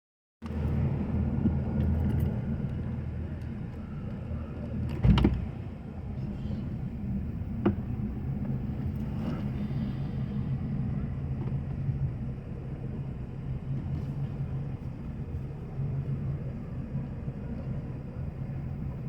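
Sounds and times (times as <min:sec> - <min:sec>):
watercraft engine idling: 0:00.8 - 0:19.0.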